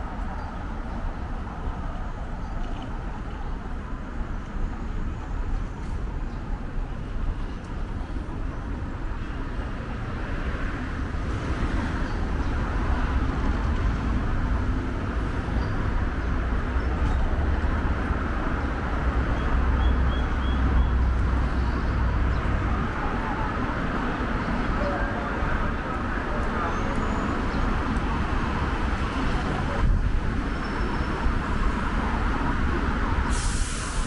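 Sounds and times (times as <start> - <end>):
passing cars and buses: 0.0 - 34.0.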